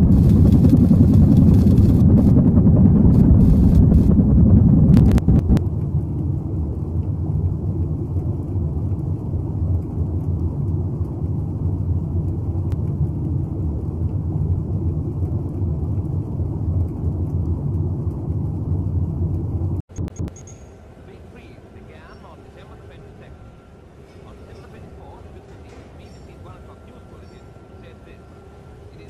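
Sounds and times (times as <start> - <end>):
low rumbling drone: 0.0 - 29.0.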